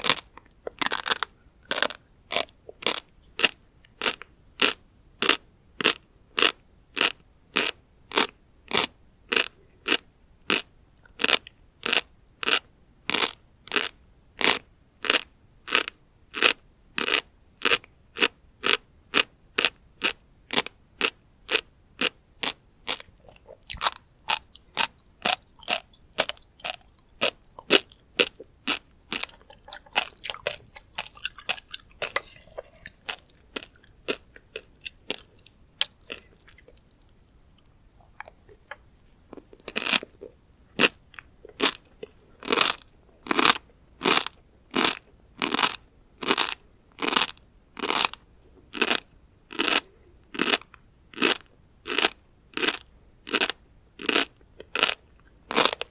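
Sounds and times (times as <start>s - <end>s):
chewing crunchy fish roe: 0.0s - 55.9s.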